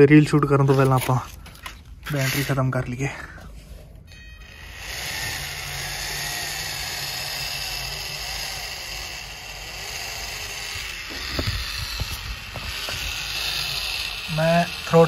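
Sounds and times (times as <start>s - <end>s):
electric motor and gearbox whirring: 0.0s - 15.0s.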